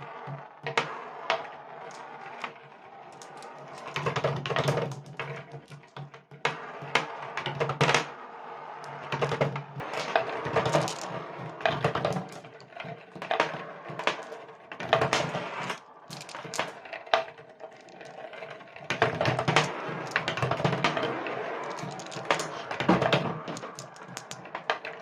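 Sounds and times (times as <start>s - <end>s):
marbles clicking and clacking: 0.0s - 8.1s, 8.8s - 25.0s
marbles rolling on cardboard track: 0.0s - 25.0s.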